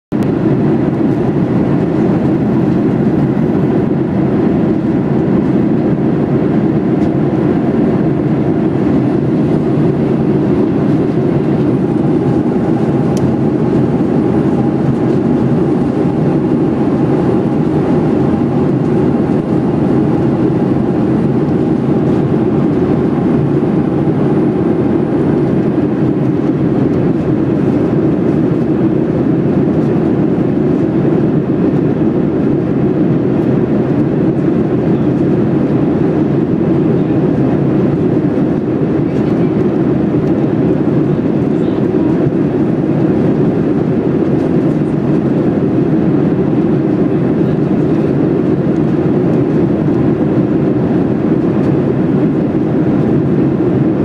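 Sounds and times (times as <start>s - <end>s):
jet cabin engine rumble: 0.1s - 54.0s.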